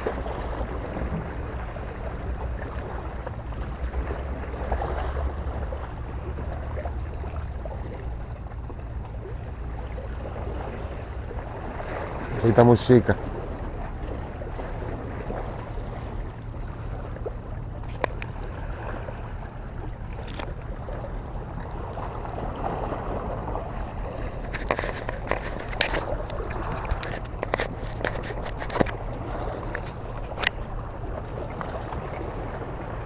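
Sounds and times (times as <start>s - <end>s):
water moving against rocks: 0.0s - 33.0s.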